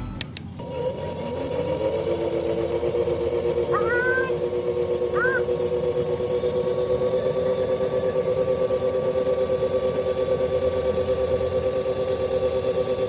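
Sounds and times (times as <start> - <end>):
rc truck motor humming: 0.0 - 13.0.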